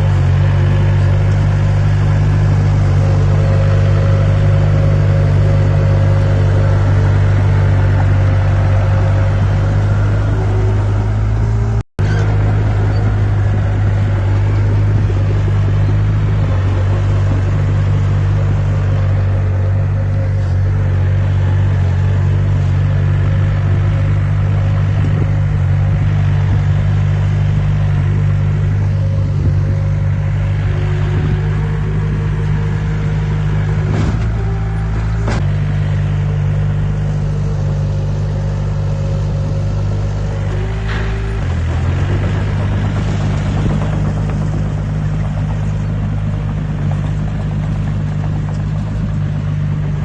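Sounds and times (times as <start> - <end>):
heavy diesel engine droning: 0.0 - 50.0.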